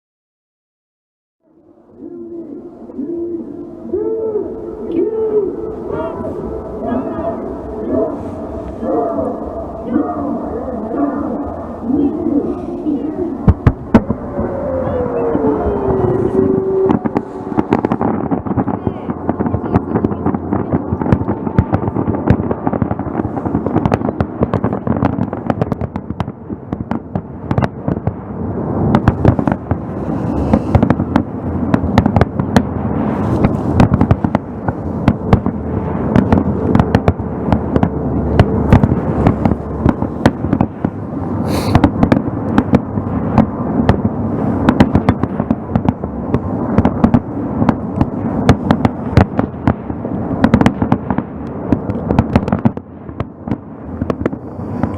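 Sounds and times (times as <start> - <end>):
steady rumble: 2.5 - 27.5, 28.2 - 54.9
fireworks bangs and crackles: 4.9 - 54.9.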